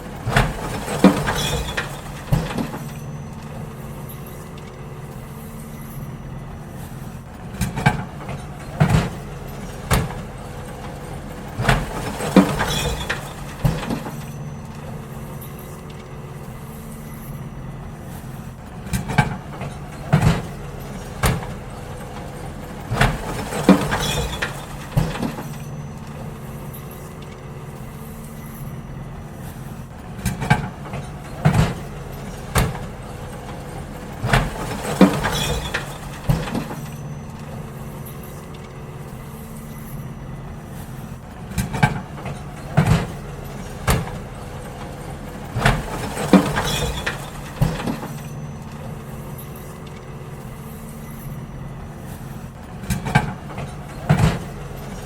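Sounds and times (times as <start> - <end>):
bins banging and clattering: 0.0 - 55.0
diesel engine running: 0.0 - 55.0.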